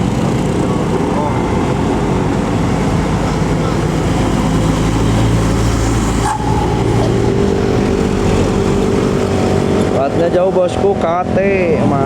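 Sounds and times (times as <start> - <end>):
diesel bus engine under load: 0.0 - 12.0.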